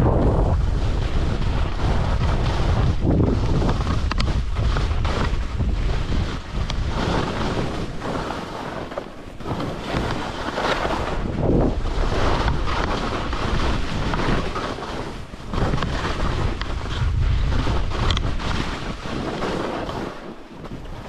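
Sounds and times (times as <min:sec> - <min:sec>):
skis scraping over snow: 0:00.0 - 0:21.0
wind buffeting microphone: 0:00.0 - 0:21.0.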